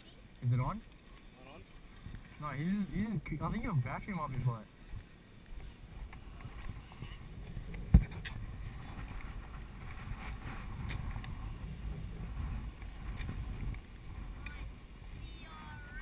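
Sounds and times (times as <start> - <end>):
low rumbling wind: 0.0 - 16.0.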